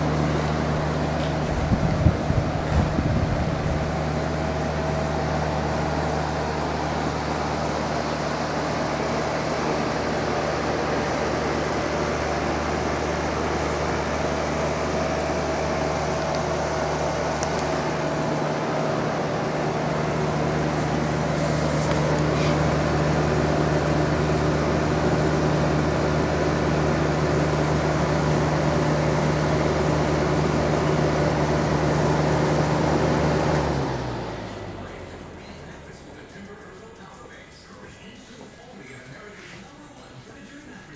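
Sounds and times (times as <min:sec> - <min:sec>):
air conditioner humming: 0:00.0 - 0:40.9
air conditioner winding down: 0:00.0 - 0:40.9.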